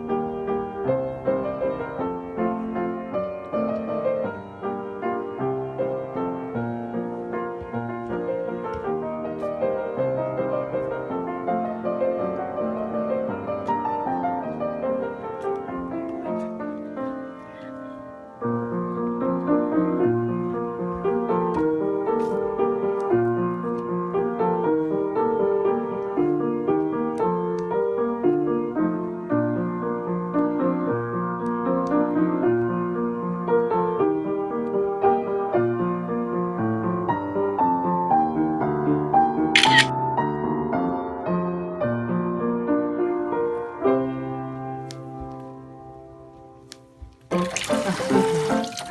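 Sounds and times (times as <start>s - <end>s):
gentle piano music: 0.0s - 48.9s.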